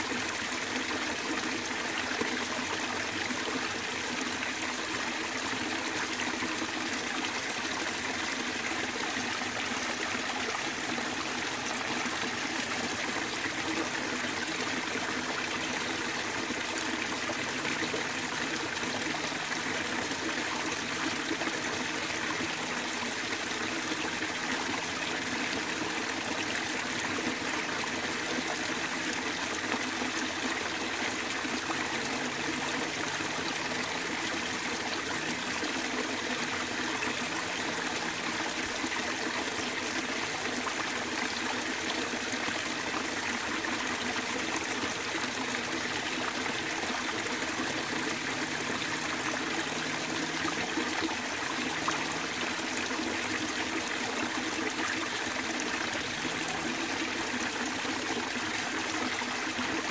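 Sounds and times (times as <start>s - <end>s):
small waterfall splashing: 0.0s - 59.9s.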